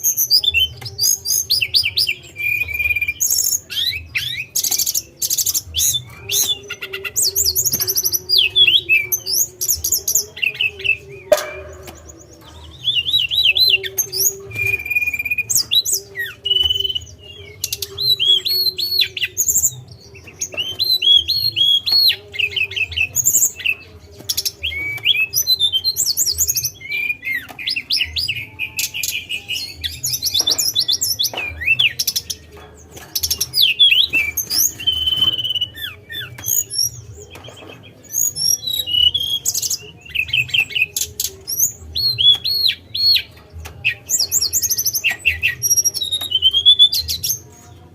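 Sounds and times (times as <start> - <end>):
bird singing whistles and trills: 0.0 - 47.6.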